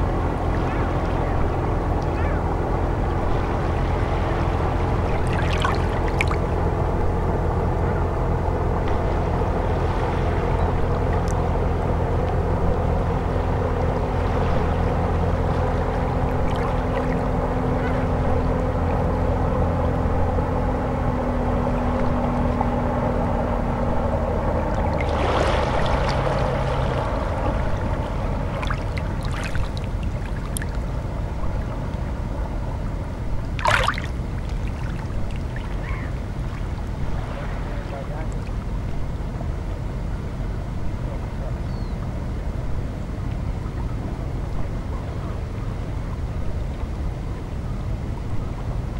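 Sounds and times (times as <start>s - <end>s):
low droning hum: 0.0s - 48.9s.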